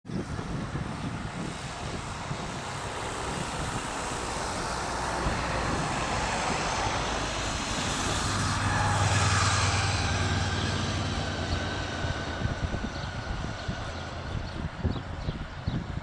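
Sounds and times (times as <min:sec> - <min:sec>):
distant engine rumble: 0:00.1 - 0:16.0
rough outdoor noise: 0:00.1 - 0:16.0.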